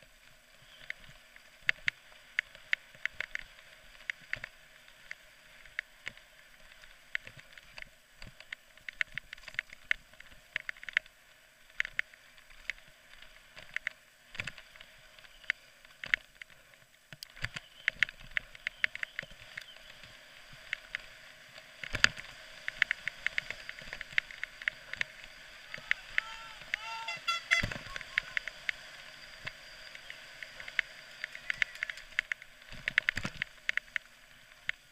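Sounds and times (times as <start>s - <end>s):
mountain bike clattering on dirt trail: 0.6s - 34.9s.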